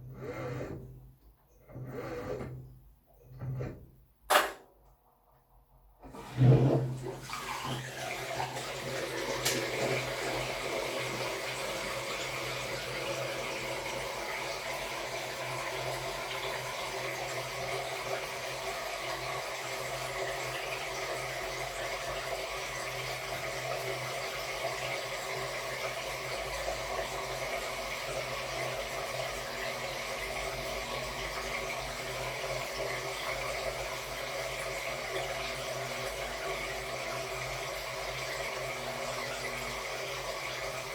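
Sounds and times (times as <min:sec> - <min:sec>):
washing machine hum: 0:00.0 - 0:40.9
water running into tub: 0:06.0 - 0:40.9.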